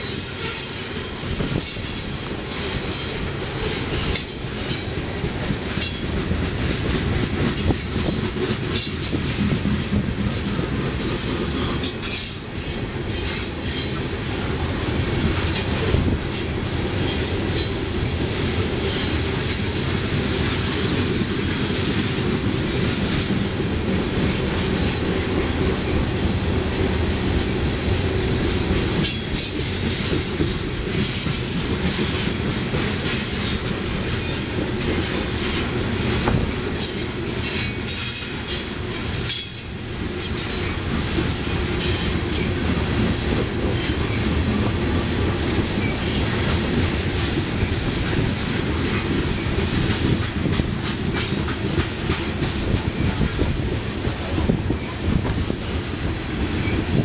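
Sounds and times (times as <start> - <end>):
train rumbling past: 0.0 - 57.0
wheels clacking over rail joints: 0.0 - 57.0.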